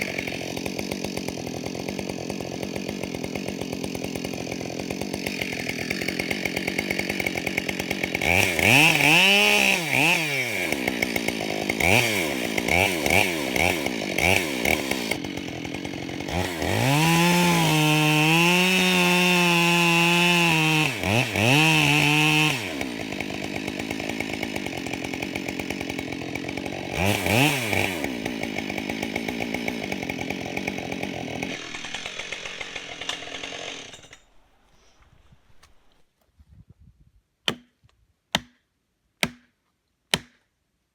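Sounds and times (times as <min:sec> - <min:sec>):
chainsaw revving and idling: 0:00.0 - 0:36.0.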